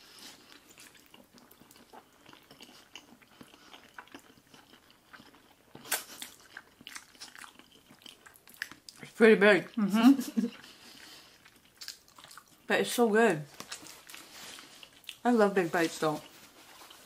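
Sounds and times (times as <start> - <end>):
wet chewing: 0.0 - 12.7, 13.5 - 15.3.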